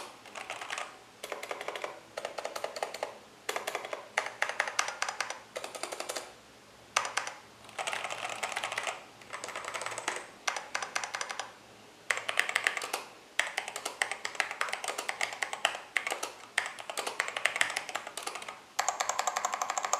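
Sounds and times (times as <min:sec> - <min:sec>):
mechanical keyboard typing: 0:00.0 - 0:06.4, 0:07.0 - 0:19.9.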